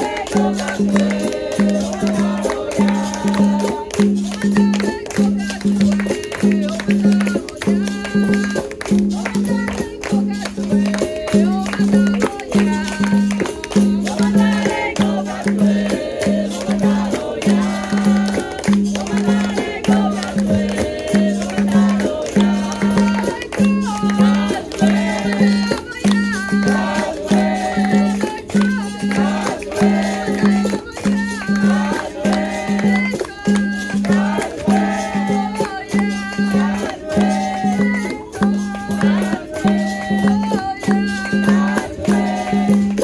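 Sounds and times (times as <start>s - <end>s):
berimbau rhythmic notes: 0.0s - 43.0s
caxixi rattle beating: 0.0s - 43.0s
group singing: 0.0s - 43.0s
hand percussion: 0.0s - 43.0s.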